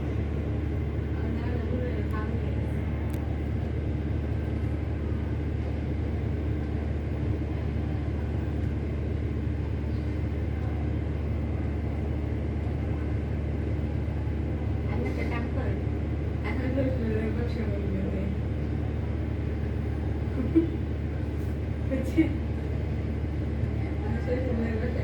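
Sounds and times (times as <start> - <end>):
faint hum: 0.0 - 25.0
low mechanical rumble: 0.0 - 25.0.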